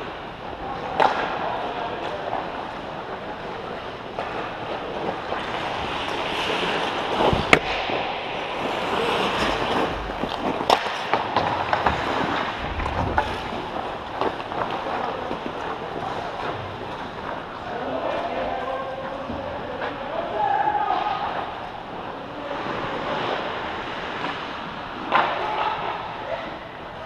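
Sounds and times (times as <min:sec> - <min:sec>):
skates scraping on ice: 0:00.0 - 0:20.0, 0:21.1 - 0:26.0
hockey sticks and puck clacking: 0:00.1 - 0:26.6.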